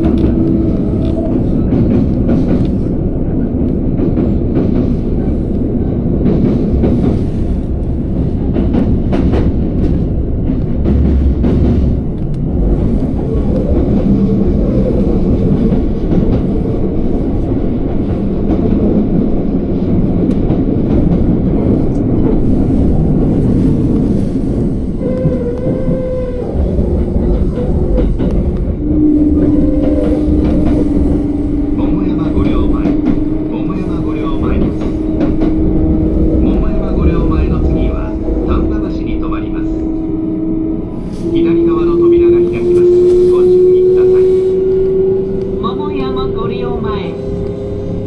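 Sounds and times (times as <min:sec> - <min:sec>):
rumble of train wheels on rail: 0:00.0 - 0:48.0.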